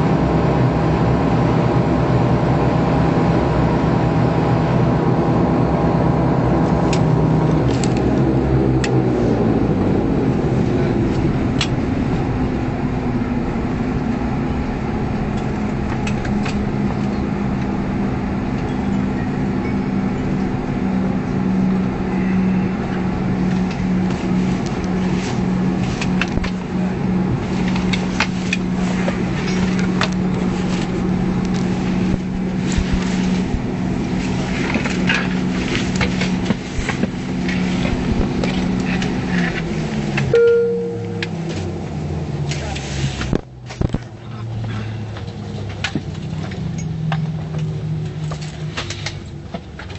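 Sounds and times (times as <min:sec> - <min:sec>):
turboprop engine running down: 0:00.0 - 0:49.9
steady hum: 0:01.0 - 0:42.4.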